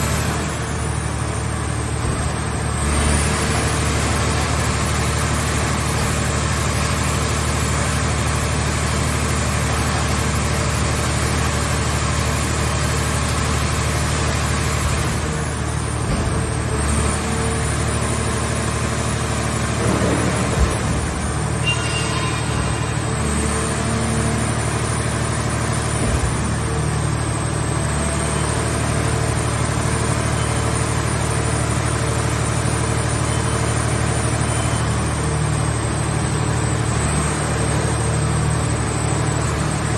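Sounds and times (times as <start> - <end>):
hydraulic power unit humming: 0.1 - 39.9.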